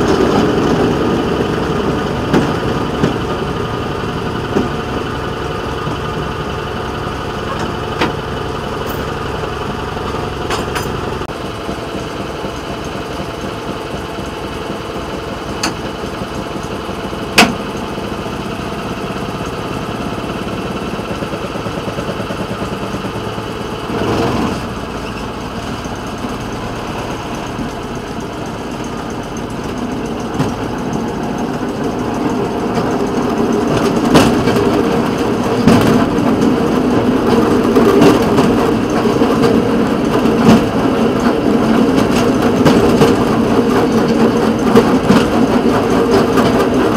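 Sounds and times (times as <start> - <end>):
small engine running: 0.0 - 46.9
wheels clacking over rail joints: 0.0 - 46.9.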